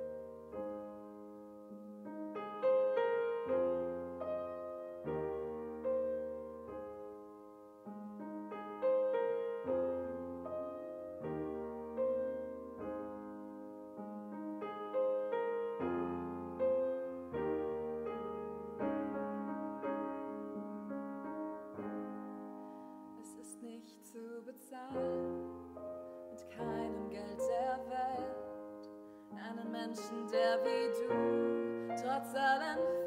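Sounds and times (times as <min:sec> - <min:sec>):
slow gentle piano piece: 0:00.0 - 0:33.0.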